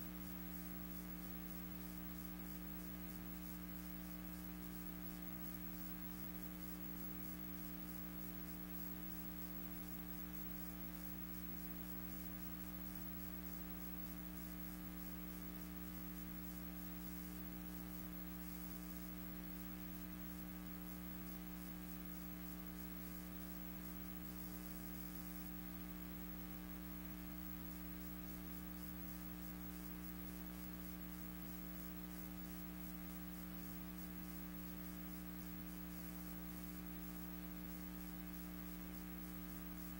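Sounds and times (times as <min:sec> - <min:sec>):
electrical hum: 0:00.0 - 0:39.9
faint hiss: 0:00.0 - 0:39.9.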